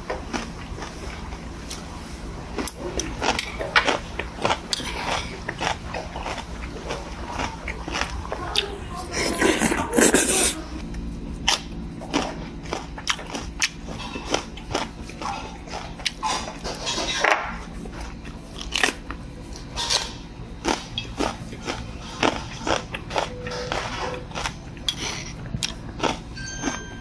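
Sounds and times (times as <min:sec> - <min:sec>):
crisp chewing crunches: 0:00.1 - 0:01.8, 0:02.5 - 0:26.8.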